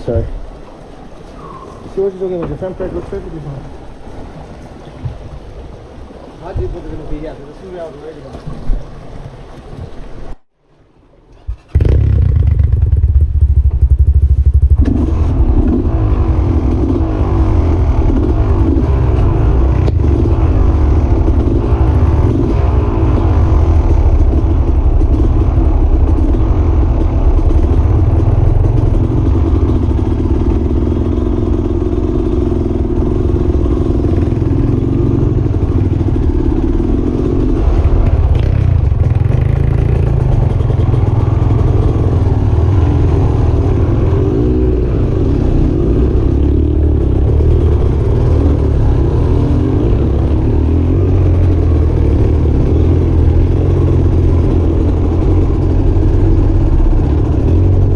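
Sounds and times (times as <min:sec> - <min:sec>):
vehicle engine revving: 0:11.4 - 0:57.9.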